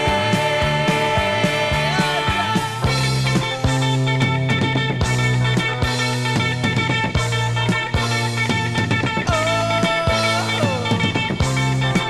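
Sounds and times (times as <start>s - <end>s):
drums steady beat: 0.0s - 12.0s
guitar chords: 0.0s - 12.0s
keyboard chords: 0.0s - 12.0s.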